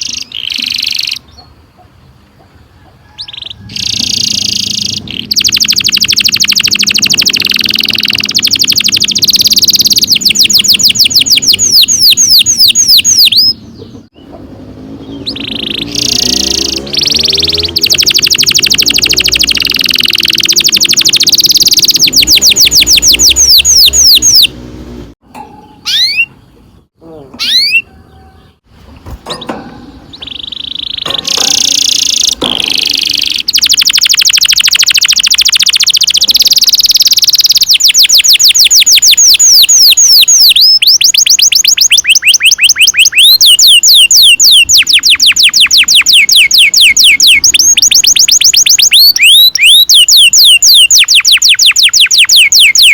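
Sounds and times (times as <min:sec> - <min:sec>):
canary single chirps: 0:00.0 - 0:01.6, 0:03.1 - 0:14.4, 0:15.0 - 0:24.6, 0:25.6 - 0:52.9
canary singing trills: 0:00.0 - 0:52.9.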